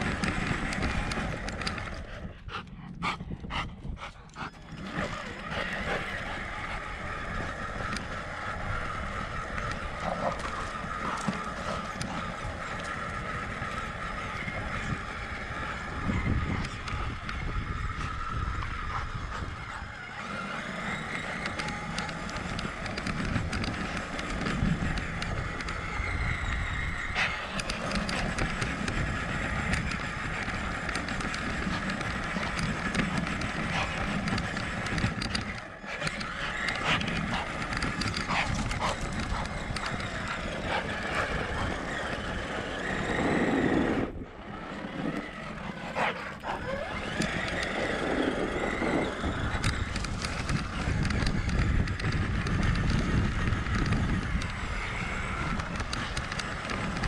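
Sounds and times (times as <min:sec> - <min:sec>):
rc truck motor whine: 0:00.0 - 0:02.5, 0:04.3 - 0:57.0.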